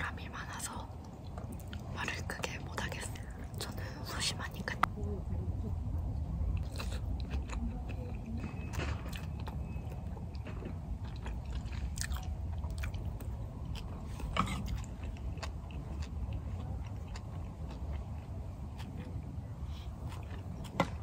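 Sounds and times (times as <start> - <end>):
steady low hum: 0.0 - 21.0
chewing and mouth clicks: 0.4 - 4.9, 6.1 - 21.0.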